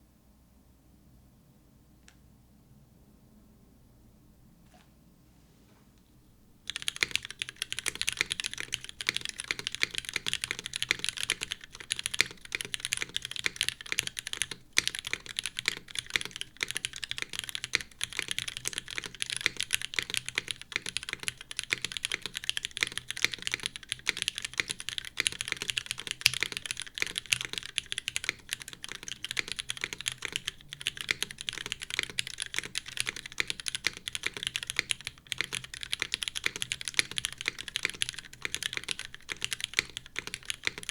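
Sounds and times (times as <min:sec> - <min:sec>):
fast typing on mechanical keyboard: 0:06.7 - 0:40.9.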